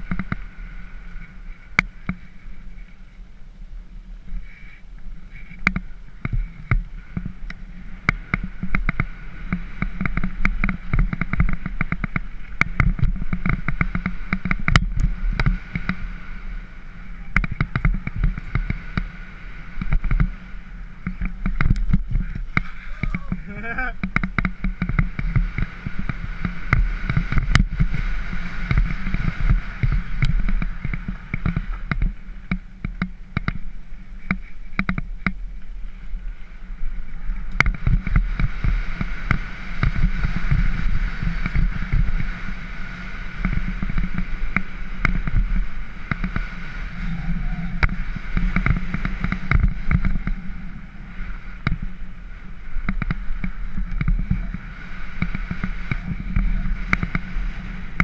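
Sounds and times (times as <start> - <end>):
bike rattling over rough ground: 0.0 - 58.0
wind rumble on microphone: 0.0 - 58.0.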